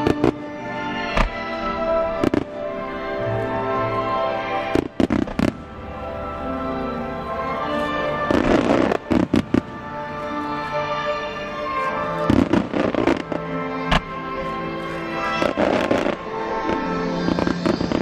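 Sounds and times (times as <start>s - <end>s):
fireworks bursting: 0.0s - 6.1s, 7.6s - 18.0s
music with held notes: 0.0s - 18.0s.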